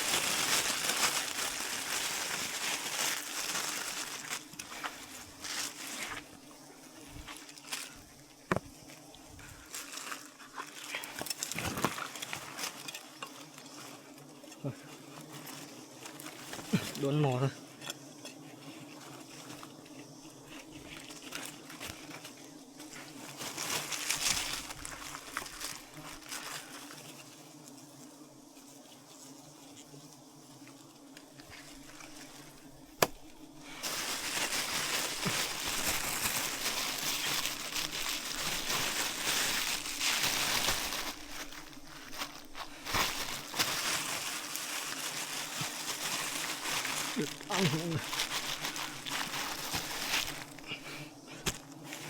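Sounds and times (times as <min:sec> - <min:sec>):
bees buzzing: 0:00.0 - 0:52.0
crackling rustle: 0:00.0 - 0:52.0.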